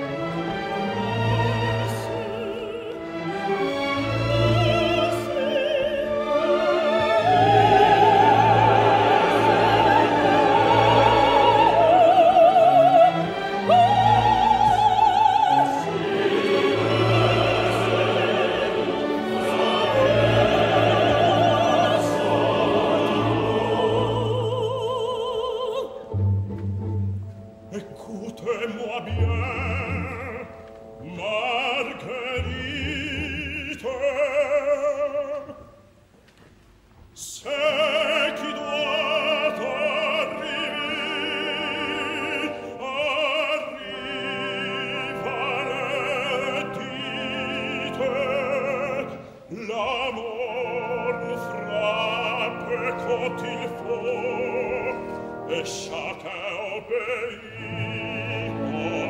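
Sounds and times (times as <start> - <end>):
operatic singing: 0.0 - 26.4, 27.6 - 35.8, 37.2 - 59.0
orchestra playing: 0.0 - 35.6, 37.5 - 59.0.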